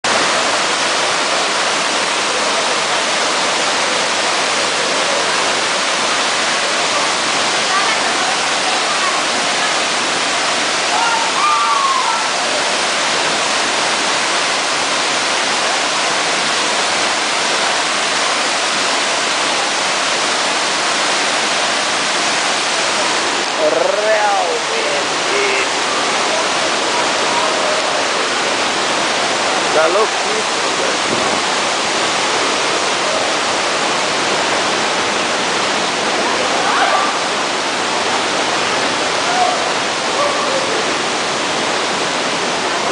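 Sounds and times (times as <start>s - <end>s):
waterfall pouring: 0.0s - 42.9s.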